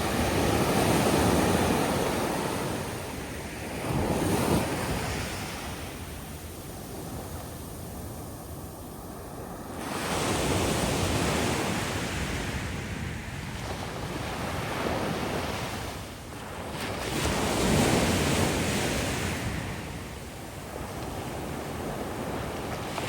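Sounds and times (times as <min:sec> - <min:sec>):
ocean waves washing in: 0:00.0 - 0:23.0.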